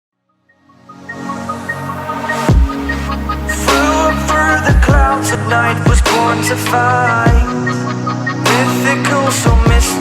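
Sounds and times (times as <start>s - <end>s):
sustained synth chords: 0.4s - 10.0s.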